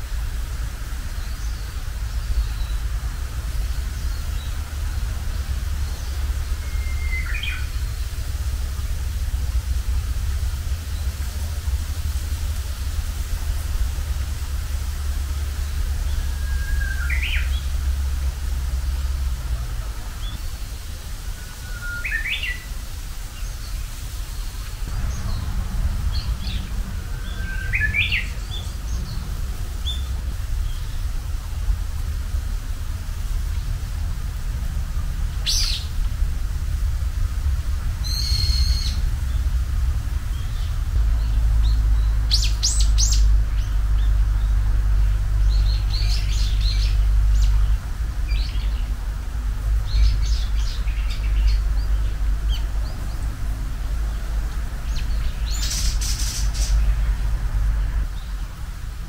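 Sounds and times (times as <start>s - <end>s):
bush warbler singing: 0.0s - 59.0s
steady low rumble: 0.0s - 59.0s.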